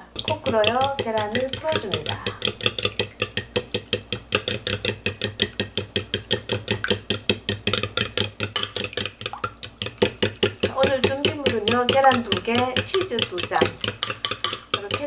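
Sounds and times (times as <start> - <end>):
fork beating eggs in glass bowl: 0.0 - 15.0.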